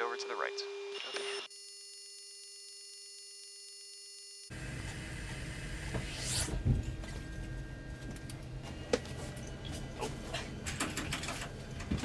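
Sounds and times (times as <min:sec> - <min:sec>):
electronic hum: 0:00.0 - 0:10.6.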